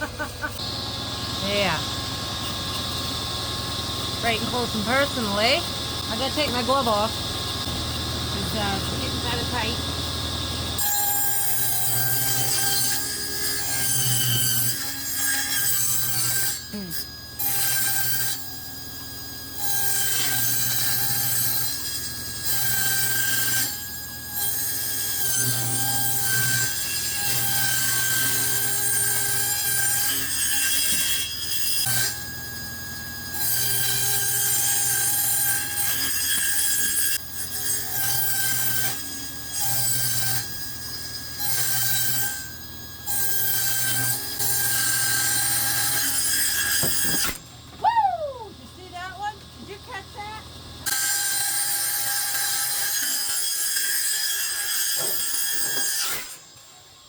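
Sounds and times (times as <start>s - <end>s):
table saw cutting wood: 0.0s - 47.5s, 49.9s - 57.0s.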